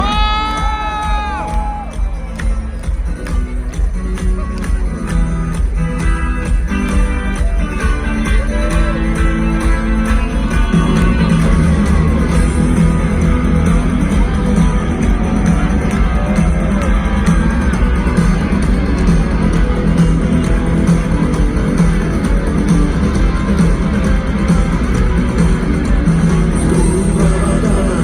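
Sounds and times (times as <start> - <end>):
electric guitar: 0.0 - 28.0
live rock band playing: 0.0 - 28.0.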